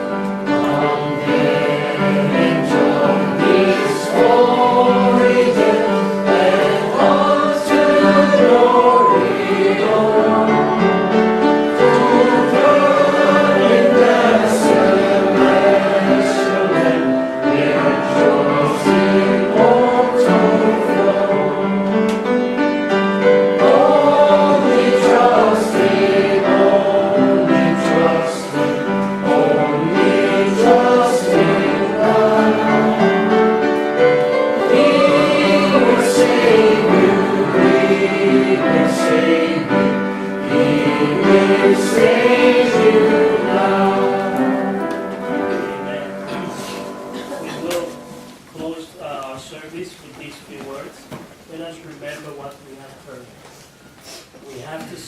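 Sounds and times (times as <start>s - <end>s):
group singing a hymn: 0.0s - 49.6s.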